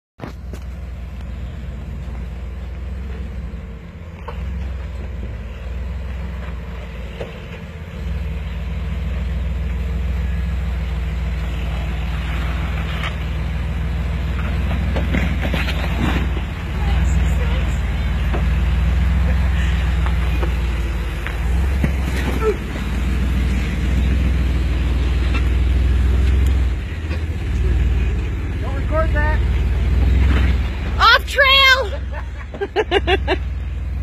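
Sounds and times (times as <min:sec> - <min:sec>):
car engine under load: 0:00.2 - 0:34.0.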